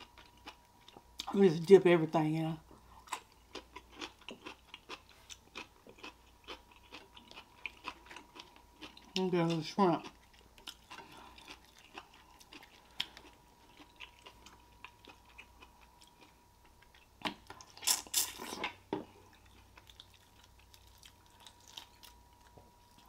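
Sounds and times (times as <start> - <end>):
wet chewing and crunching: 3.0 - 23.0.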